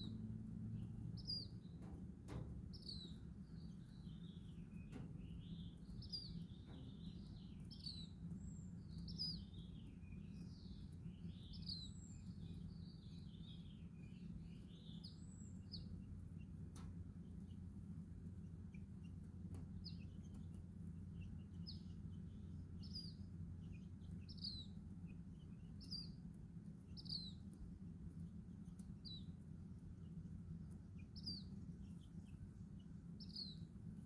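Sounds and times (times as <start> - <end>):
baby chicks peeping: 0.0 - 34.0
steady low hum: 0.0 - 34.0.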